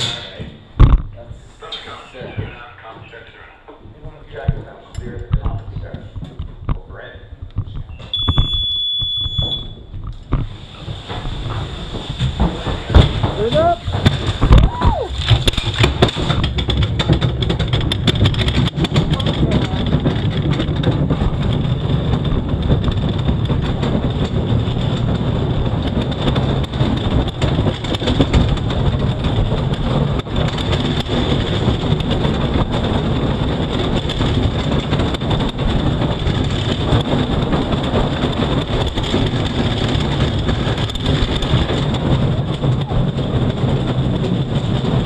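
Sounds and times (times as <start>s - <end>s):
bobsled runners rumbling on ice: 0.0s - 45.0s.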